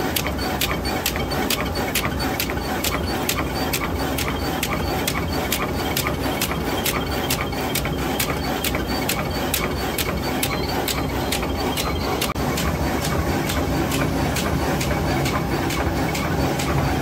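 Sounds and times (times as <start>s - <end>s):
machine clattering: 0.0s - 17.0s.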